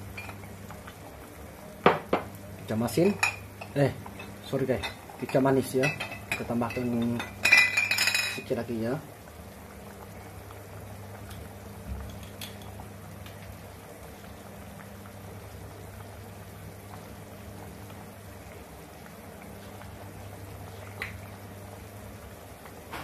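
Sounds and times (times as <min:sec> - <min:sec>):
pot bubbling: 0:00.0 - 0:23.0
steady low hum: 0:00.0 - 0:23.0.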